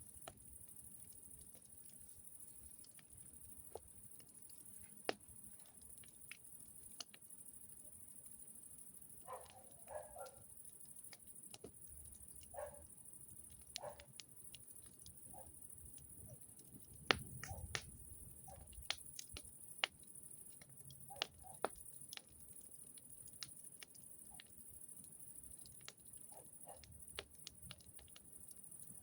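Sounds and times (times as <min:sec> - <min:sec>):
fire pops and snaps: 0:00.0 - 0:29.0
wood fire crackling: 0:00.0 - 0:29.0.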